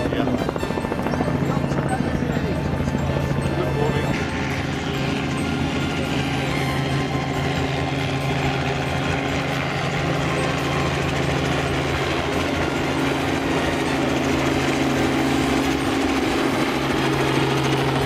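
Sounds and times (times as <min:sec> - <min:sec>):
helicopter drone: 0:00.0 - 0:18.0.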